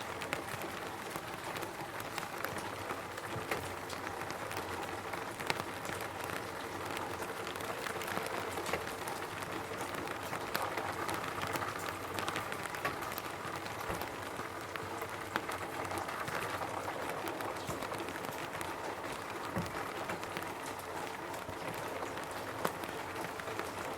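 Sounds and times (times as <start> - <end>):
rain pattering on a roof: 0.0 - 23.9.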